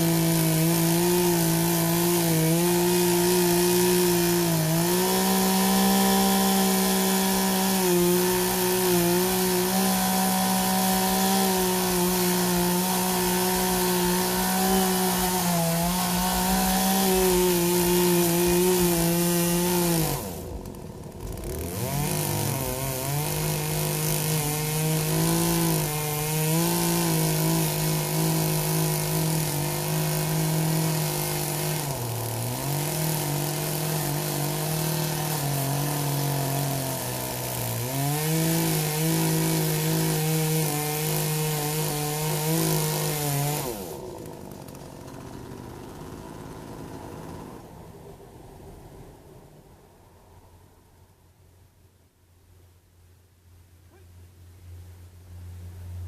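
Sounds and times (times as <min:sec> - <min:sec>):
chainsaw cutting tree stump: 0:00.0 - 0:47.8.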